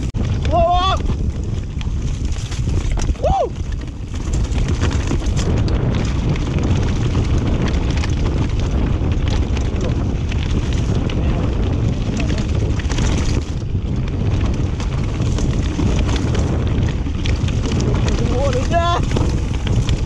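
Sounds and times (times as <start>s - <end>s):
bike rattling and knocking: 0.0s - 20.0s
tyres rolling over leaves and dirt: 0.0s - 20.0s
wind on microphone: 0.0s - 20.0s.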